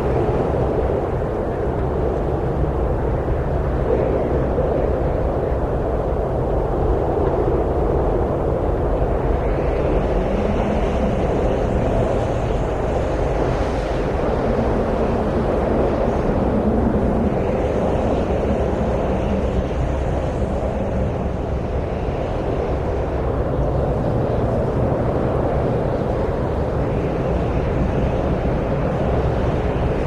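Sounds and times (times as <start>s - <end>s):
steady wind rushing: 0.0s - 30.0s.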